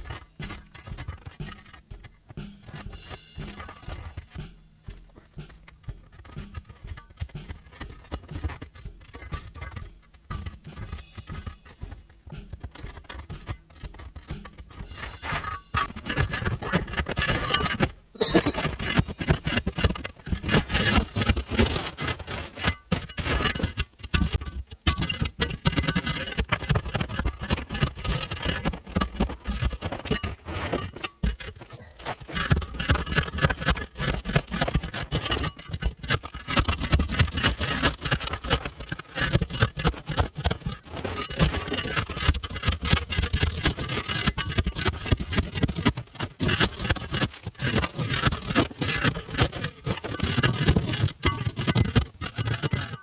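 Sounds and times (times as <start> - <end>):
roofing scraping and knocking: 0.0 - 53.0.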